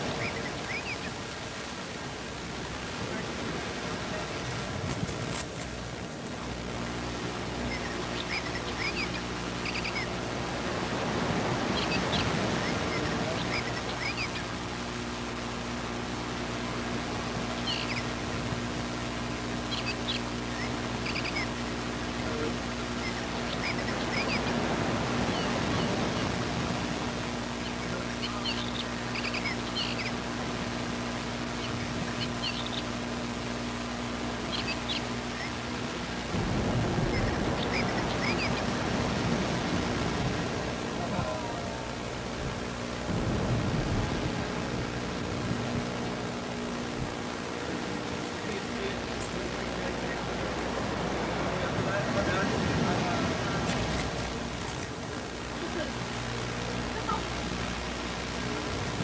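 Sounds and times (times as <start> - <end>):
recording hiss and low hum: 0.0 - 59.0.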